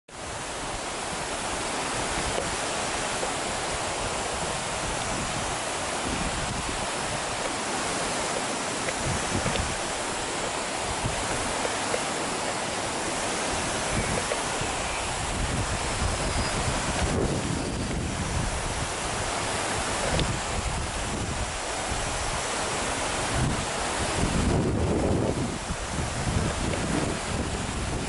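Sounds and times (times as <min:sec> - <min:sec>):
creek flowing over rocks: 0:00.1 - 0:28.0.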